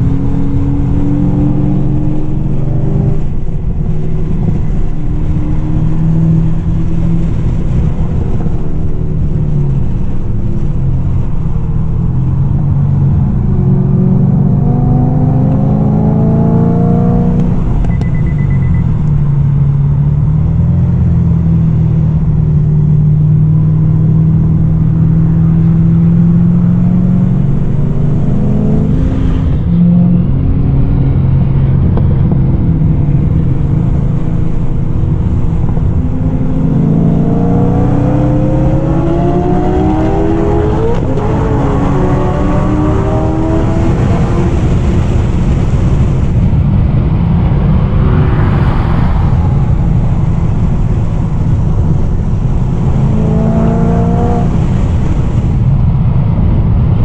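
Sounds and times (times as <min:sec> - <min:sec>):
race car engine revving: 0:00.0 - 0:18.8, 0:23.1 - 0:55.7.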